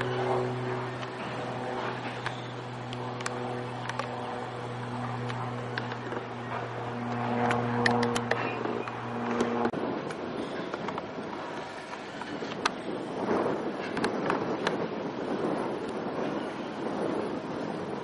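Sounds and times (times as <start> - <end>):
outdoor noise rush: 0.0 - 18.0
propeller airplane engine drone: 0.0 - 18.0.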